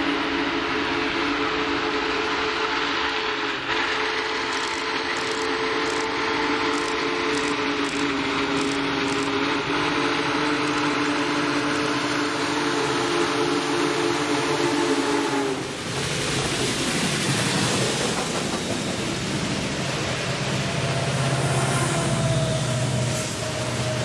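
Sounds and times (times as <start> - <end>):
train running: 0.0 - 24.0.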